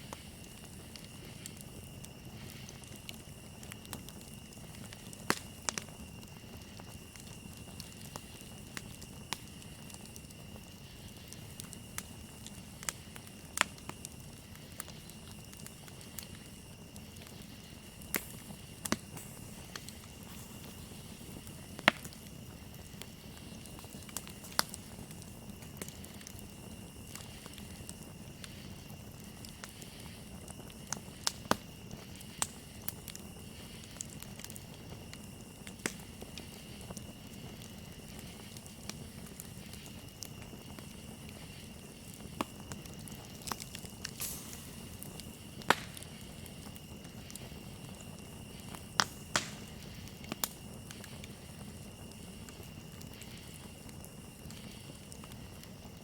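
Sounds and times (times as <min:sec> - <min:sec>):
campfire crackling and popping: 0:00.0 - 0:56.0
crickets chirping: 0:00.0 - 0:56.0.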